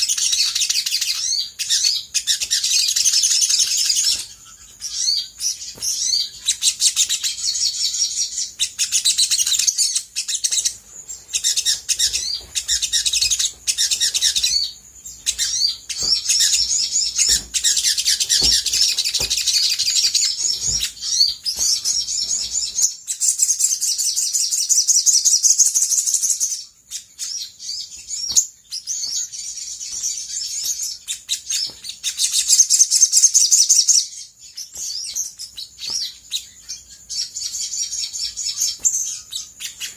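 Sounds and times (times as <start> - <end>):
sunbird trilling and chirping: 0.0 - 39.9.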